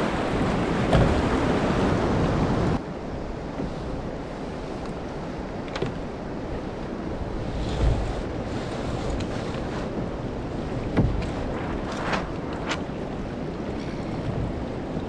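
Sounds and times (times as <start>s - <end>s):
light clicks and knocks from boat: 0.0s - 15.0s
water washing along hull: 0.0s - 15.0s
wind buffeting microphone: 0.0s - 15.0s.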